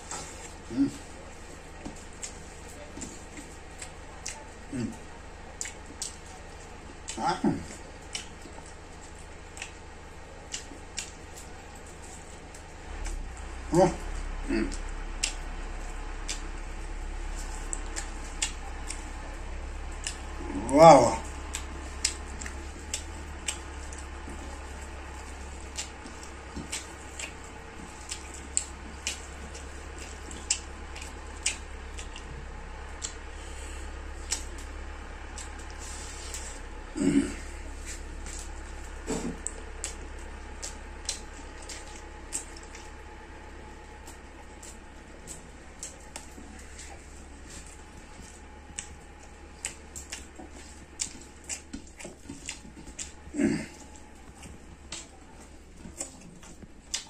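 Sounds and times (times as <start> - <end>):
wet squishing of meat tearing: 0.0 - 57.0.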